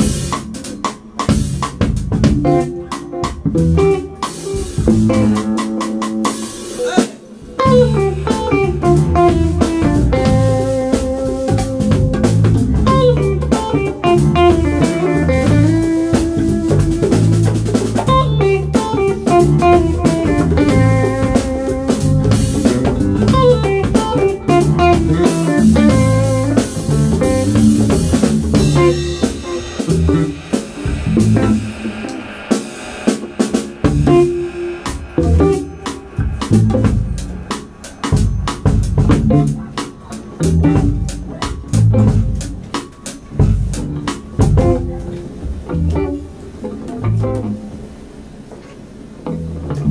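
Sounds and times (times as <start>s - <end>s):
drum kit and cymbals: 0.0s - 49.9s
electric guitar lines: 0.0s - 49.9s
electric bass: 1.3s - 6.3s, 7.5s - 39.8s, 40.4s - 42.7s, 43.3s - 47.9s, 49.2s - 49.9s.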